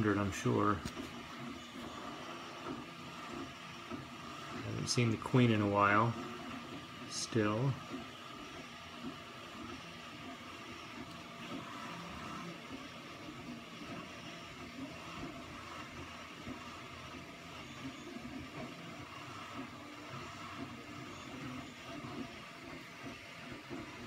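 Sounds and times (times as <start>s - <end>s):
background hum and hiss: 0.0s - 24.0s.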